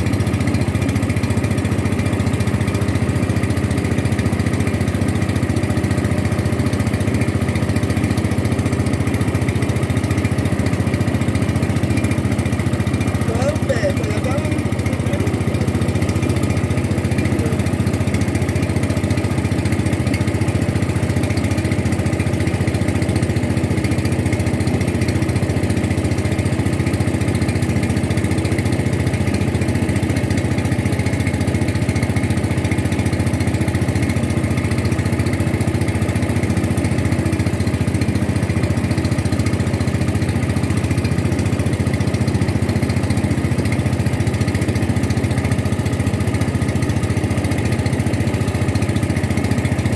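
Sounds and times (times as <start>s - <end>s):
boat engine droning: 0.0s - 49.9s.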